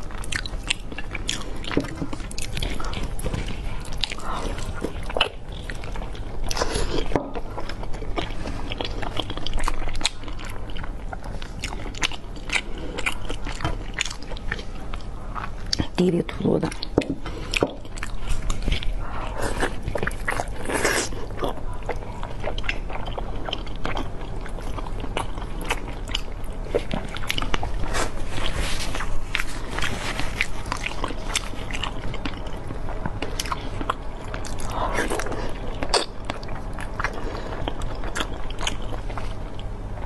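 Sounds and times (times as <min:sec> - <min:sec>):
biting and chewing food: 0:00.0 - 0:40.0.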